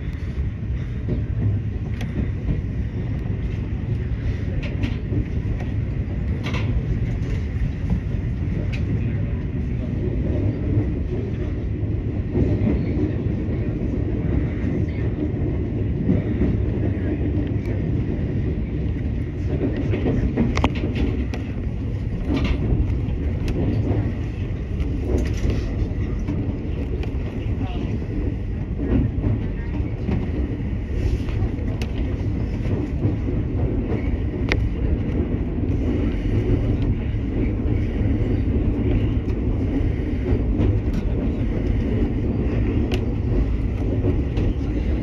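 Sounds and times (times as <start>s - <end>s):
electric train rumbling on rails: 0.0s - 45.0s
wheels clicking on track: 0.0s - 45.0s.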